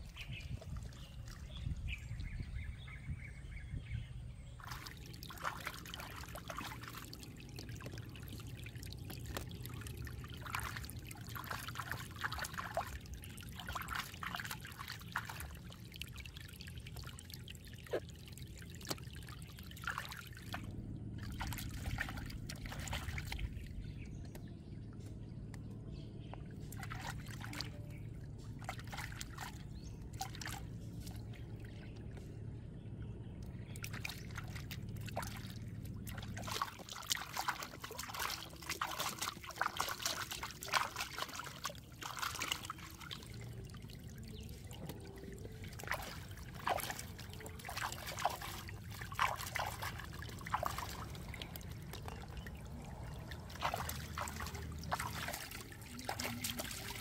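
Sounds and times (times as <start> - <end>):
stream water trickling: 0.0 - 57.0
small splashes and knocks: 4.6 - 57.0.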